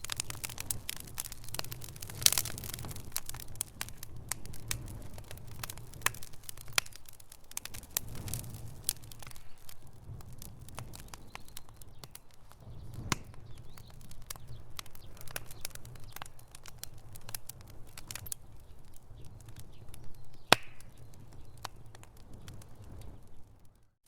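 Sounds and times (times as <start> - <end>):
low rumble of flames: 0.0 - 24.0
wood fire crackling: 0.0 - 24.0.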